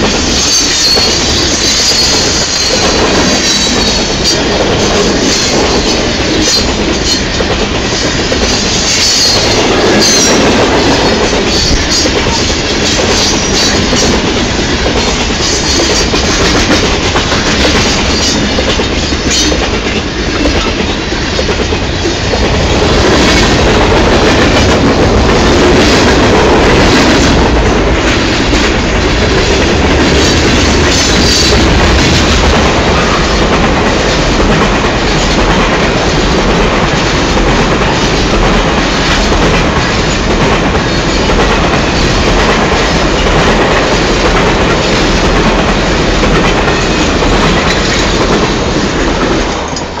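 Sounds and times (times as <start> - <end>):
freight train wheels clattering: 0.0 - 50.0.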